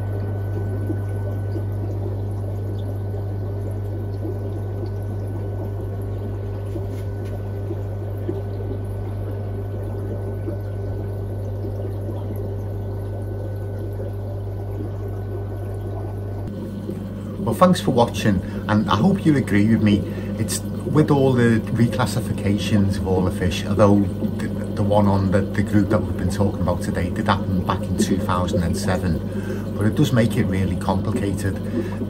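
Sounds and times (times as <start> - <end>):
low electric hum: 0.0 - 32.0
water trickling and bubbling: 0.0 - 32.0.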